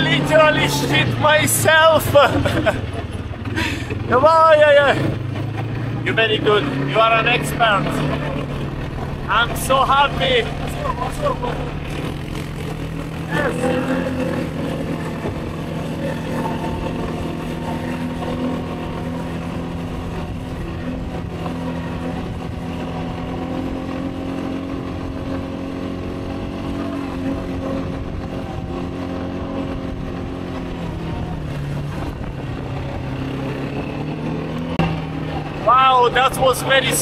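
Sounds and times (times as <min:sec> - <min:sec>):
quad bike engine running: 0:00.0 - 0:37.0.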